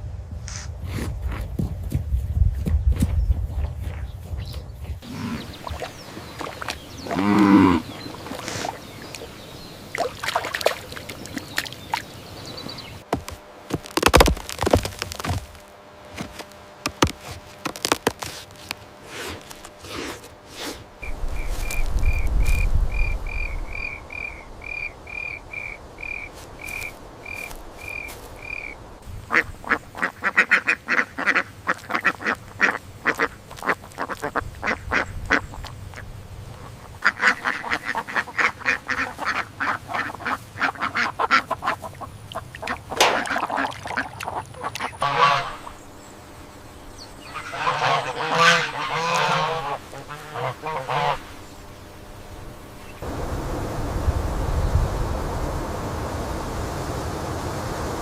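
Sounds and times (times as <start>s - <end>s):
birds calling: 4.0s - 53.3s.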